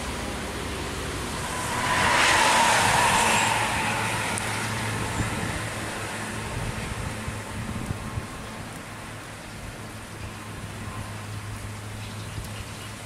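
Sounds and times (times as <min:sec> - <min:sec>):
low engine hum: 0:00.0 - 0:13.0
tyres hissing on wet road: 0:00.0 - 0:13.0.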